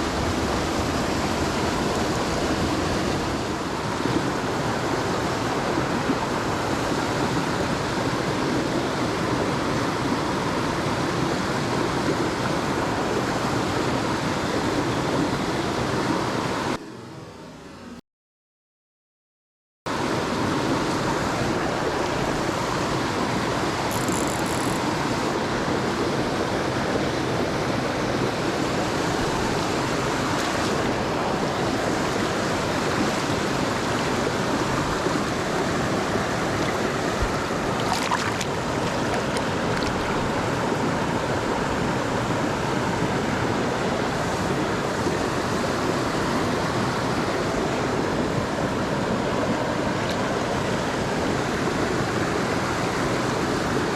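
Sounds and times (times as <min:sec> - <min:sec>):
stream water rushing: 0:00.0 - 0:17.8, 0:19.9 - 0:53.9.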